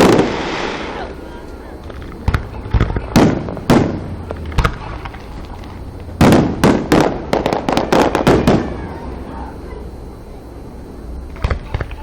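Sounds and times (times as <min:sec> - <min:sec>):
fireworks banging: 0:00.0 - 0:09.4, 0:11.2 - 0:12.0.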